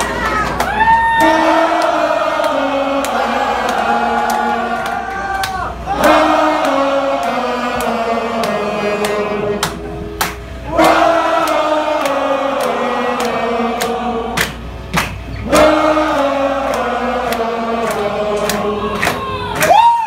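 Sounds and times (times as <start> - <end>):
voices singing held notes: 1.1 - 19.8.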